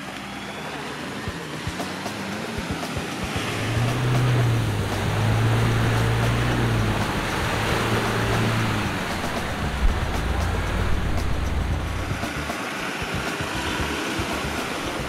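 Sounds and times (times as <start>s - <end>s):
mud and water splashing: 0.0s - 15.0s
pickup truck engine running: 2.8s - 15.0s.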